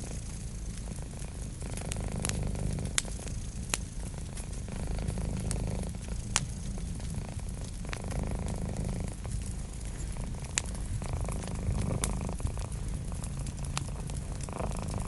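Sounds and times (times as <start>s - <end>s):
cat purring: 0.0s - 15.0s
wood fire crackling and popping: 0.0s - 15.0s.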